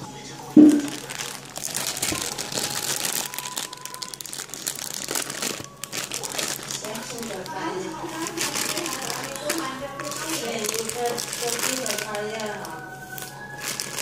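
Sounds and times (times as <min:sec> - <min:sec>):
plastic bag crinkling: 0:00.6 - 0:14.0.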